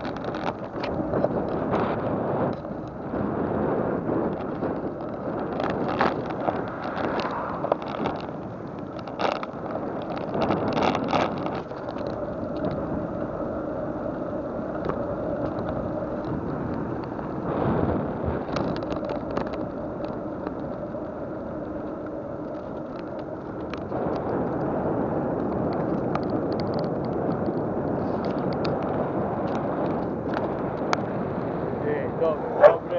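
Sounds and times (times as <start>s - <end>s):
vehicle road noise: 0.0s - 32.9s
wind noise: 0.0s - 32.9s.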